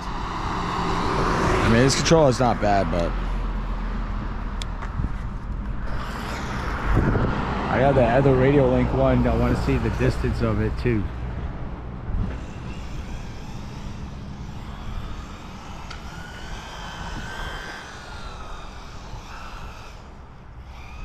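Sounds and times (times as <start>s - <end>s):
faint whine rising and falling: 0.0s - 21.0s
wind rumble on microphone: 3.4s - 21.0s.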